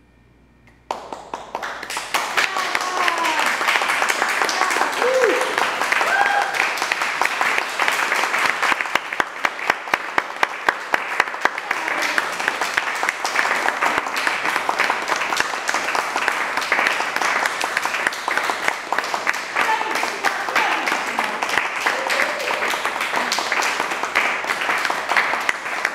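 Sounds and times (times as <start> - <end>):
audience applauding: 0.9 - 25.9
close loud hand clapping: 0.9 - 25.9.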